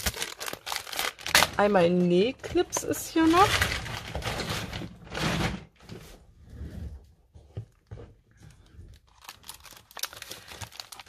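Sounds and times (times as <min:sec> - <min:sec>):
plastic bags and packets rustling: 0:00.0 - 0:06.0, 0:07.8 - 0:11.0.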